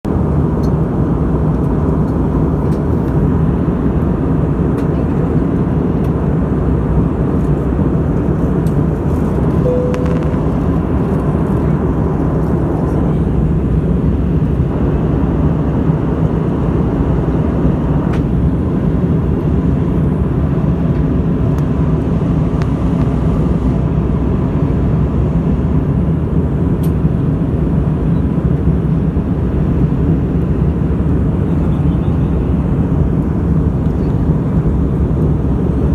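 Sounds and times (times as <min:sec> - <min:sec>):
airplane engines rumbling: 0:00.1 - 0:35.9.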